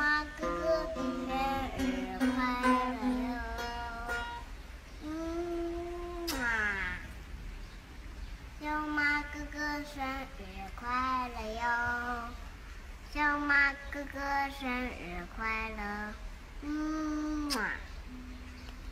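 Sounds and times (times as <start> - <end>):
toddler singing: 0.0 - 7.2, 8.6 - 12.5, 13.1 - 18.6.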